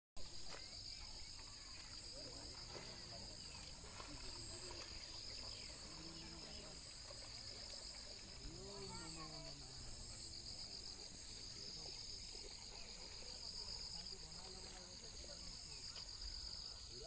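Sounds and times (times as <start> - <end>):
insects chirping: 0.2 - 17.0
faint distant voices: 0.4 - 17.0.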